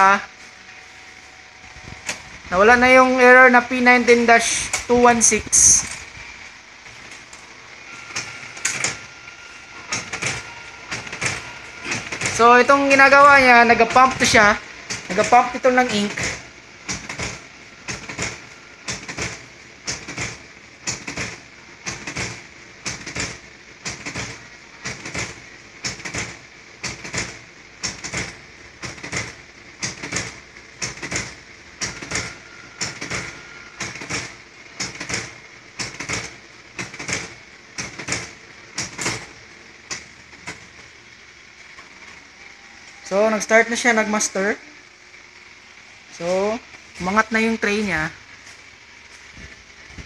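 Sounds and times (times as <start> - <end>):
duplicator mechanical clacking: 0.0 - 50.0.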